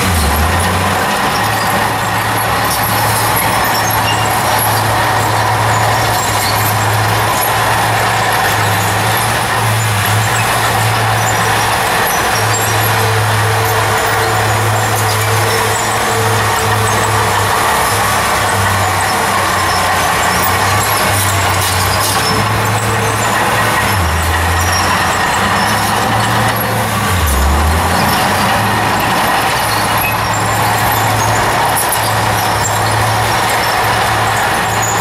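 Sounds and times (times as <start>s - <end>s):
bulldozer diesel engine under load: 0.0s - 35.0s.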